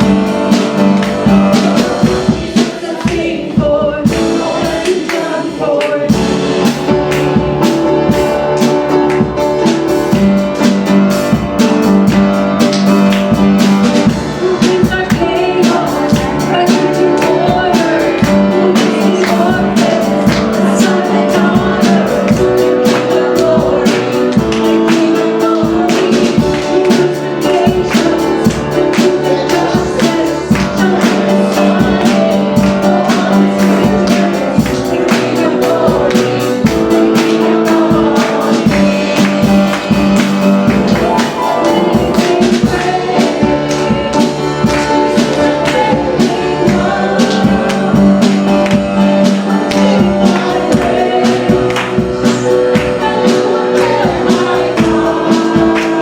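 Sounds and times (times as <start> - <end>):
drum kit beat: 0.0 - 56.0
worship band playing gospel song: 0.0 - 56.0.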